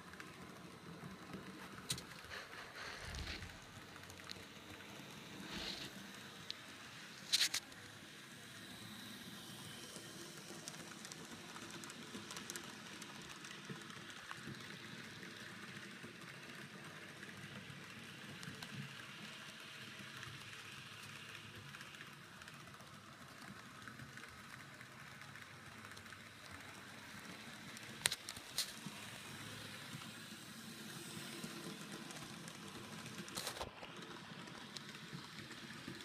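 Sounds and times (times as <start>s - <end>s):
model train running on rails: 0.0s - 36.0s.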